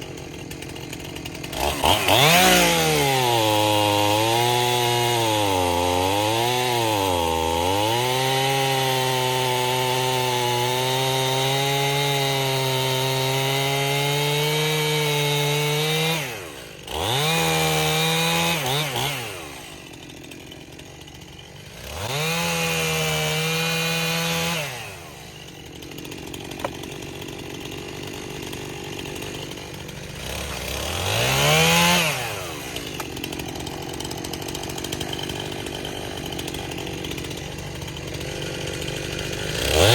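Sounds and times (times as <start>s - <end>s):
chainsaw cutting wood: 0.0s - 39.9s
chainsaw idling and revving: 0.0s - 39.9s.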